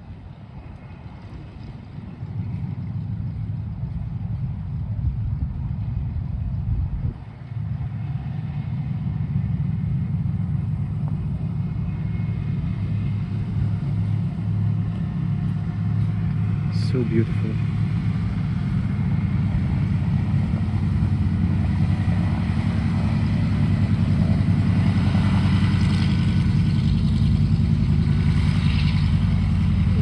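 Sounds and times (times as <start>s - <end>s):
propeller aircraft engine droning: 0.0s - 30.0s.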